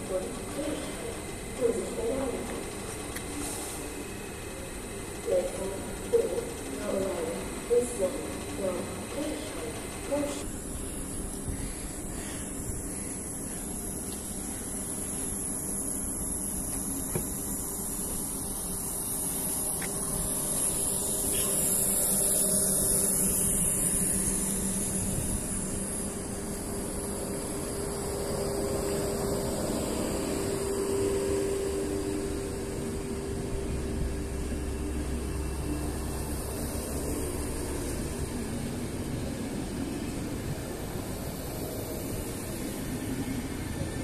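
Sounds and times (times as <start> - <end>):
train rolling past with hiss: 0.0 - 44.0.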